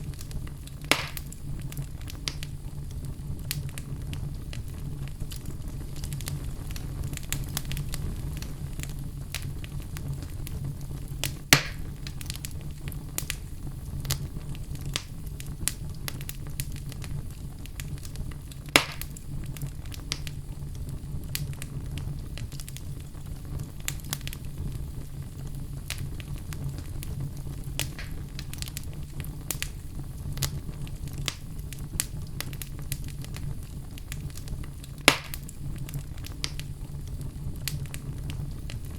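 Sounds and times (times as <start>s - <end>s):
fire crackling and popping: 0.0s - 38.9s
fire flames rumbling: 0.0s - 38.9s.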